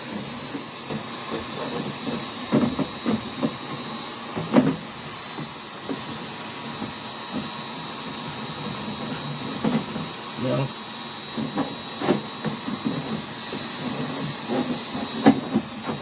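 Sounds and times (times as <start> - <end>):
vacuum cleaner running: 0.0 - 16.0
hose knocking and scraping: 0.1 - 7.6, 8.3 - 10.2, 11.3 - 16.0.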